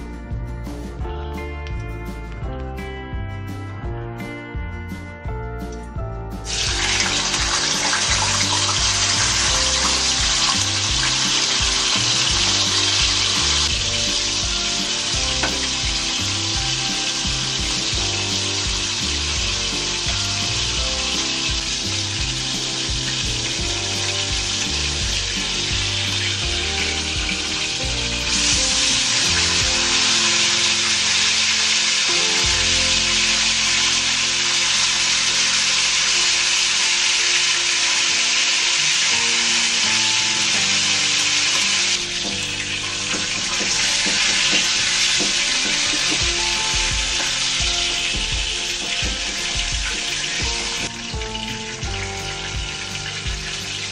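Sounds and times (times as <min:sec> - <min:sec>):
chicken sizzling in hot oil: 0:06.4 - 0:53.9.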